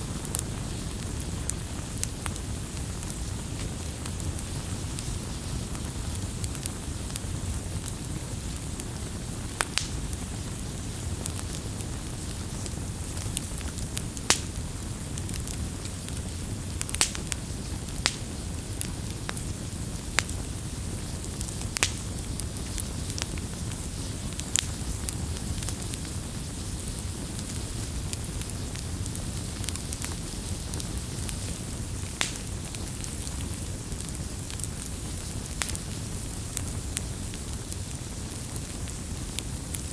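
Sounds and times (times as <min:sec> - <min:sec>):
burning wood crackling: 0:00.0 - 0:39.9
rumble of flames: 0:00.0 - 0:39.9.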